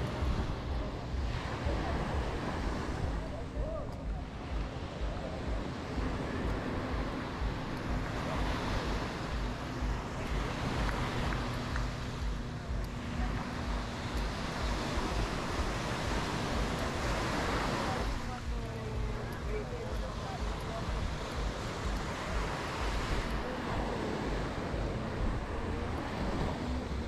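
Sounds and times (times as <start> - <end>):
faint steady hum: 0.0 - 27.0
sea surf washing onto beach: 0.0 - 27.0
wind buffeting microphone: 0.0 - 27.0.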